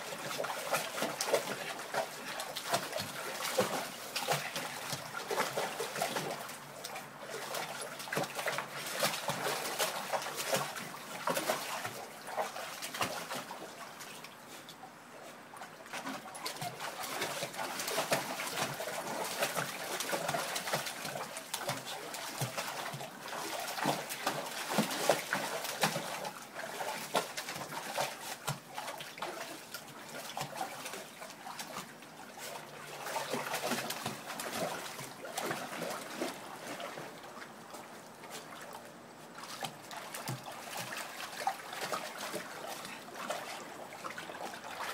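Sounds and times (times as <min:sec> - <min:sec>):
water splashing in plastic pool: 0:00.0 - 0:44.9.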